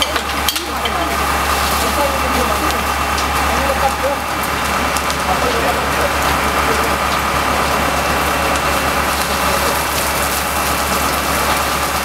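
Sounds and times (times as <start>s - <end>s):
timber fire crackling: 0.0s - 12.0s.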